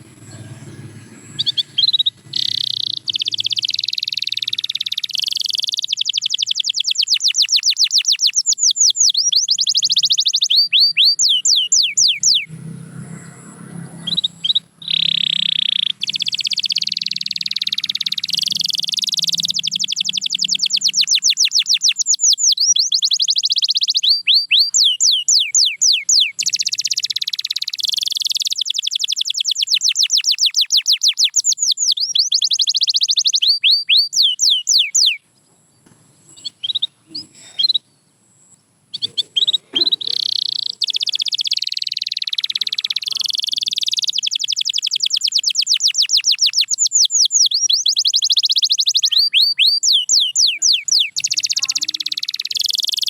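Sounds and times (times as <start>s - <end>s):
buzzing rolls of birdsong: 0.0s - 53.0s
canary singing: 0.0s - 53.0s.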